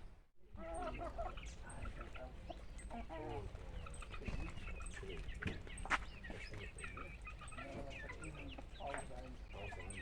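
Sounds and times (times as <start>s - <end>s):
chickens clucking: 0.5s - 10.0s
small birds chirping: 0.7s - 10.0s.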